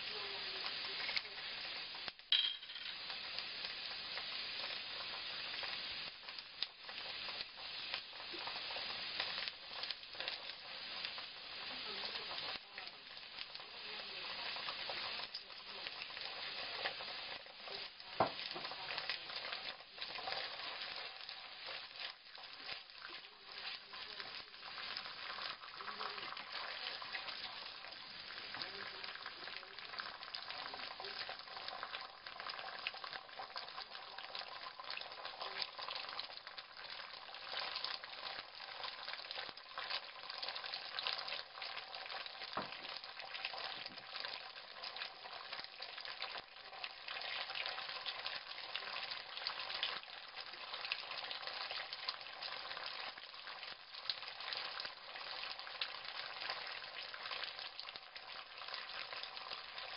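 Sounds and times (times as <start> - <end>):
sauce sizzling in a pan: 0.0 - 59.9.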